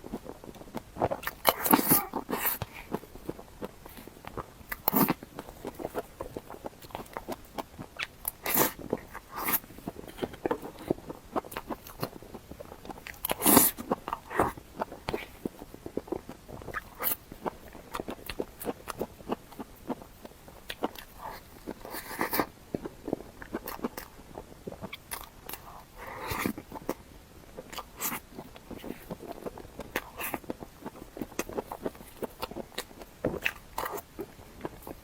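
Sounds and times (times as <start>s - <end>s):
crunchy biting and chewing: 0.0s - 35.0s.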